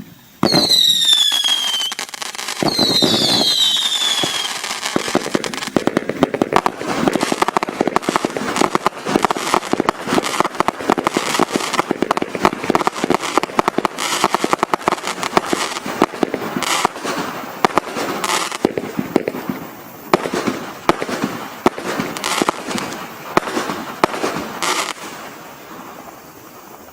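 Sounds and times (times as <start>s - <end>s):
fireworks barrage firing: 0.0s - 26.9s.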